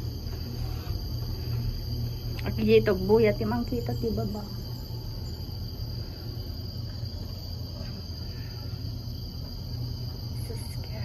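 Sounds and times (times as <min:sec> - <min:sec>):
cable car cabin hum: 0:00.0 - 0:11.0.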